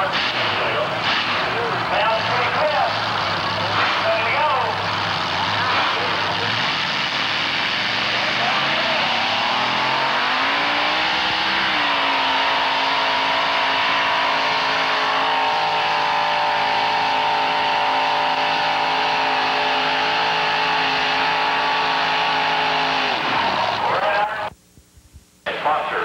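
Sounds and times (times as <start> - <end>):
supercharged truck engine at full throttle: 0.0 - 24.5.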